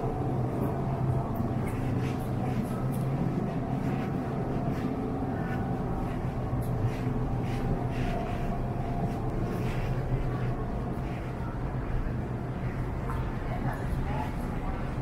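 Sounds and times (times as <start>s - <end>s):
faint footsteps: 0.0s - 15.0s
refrigerated coolers humming: 0.0s - 15.0s.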